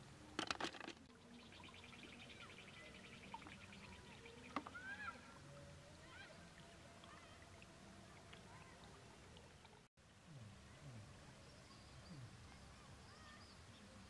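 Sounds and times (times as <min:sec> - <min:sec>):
flowing water: 0:00.0 - 0:14.0
faint bird calls: 0:01.1 - 0:09.7, 0:10.3 - 0:14.0.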